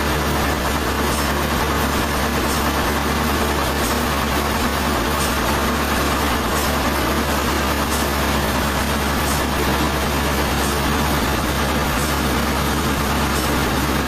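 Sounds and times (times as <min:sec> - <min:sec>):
sawmill machinery droning: 0:00.0 - 0:14.0.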